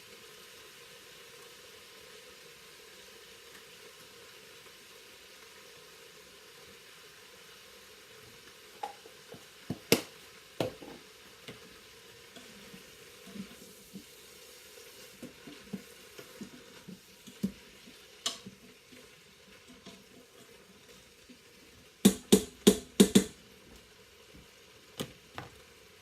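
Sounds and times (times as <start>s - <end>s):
faint sizzle: 0.0s - 26.0s.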